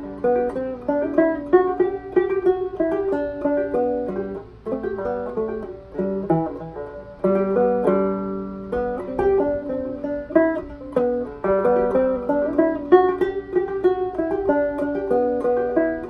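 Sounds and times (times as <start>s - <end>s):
banjo plucked melody: 0.0s - 16.0s.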